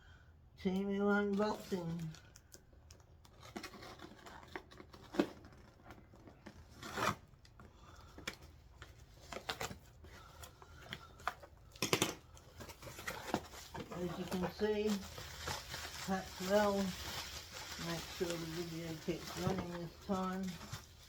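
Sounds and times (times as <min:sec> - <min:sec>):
packaging rustling and tearing: 0:01.3 - 0:21.0.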